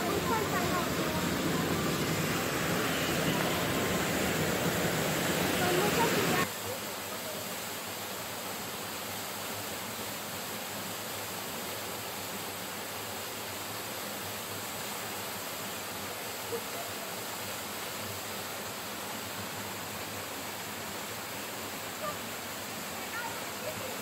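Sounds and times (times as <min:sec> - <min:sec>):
waterfall rushing onto rocks: 0:00.0 - 0:24.0.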